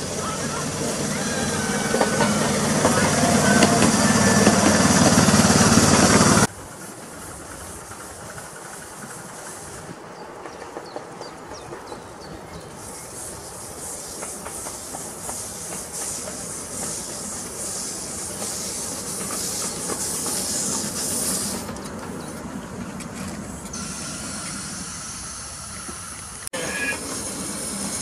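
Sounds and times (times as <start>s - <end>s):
steam hissing: 0.0s - 10.6s, 12.2s - 22.3s, 23.6s - 28.0s
steam locomotive chuffing: 0.0s - 28.0s
wheels rumbling on rails: 0.0s - 28.0s.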